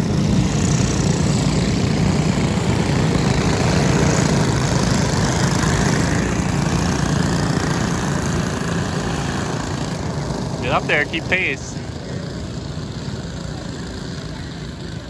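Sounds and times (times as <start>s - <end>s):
kart engines droning: 0.0s - 15.0s.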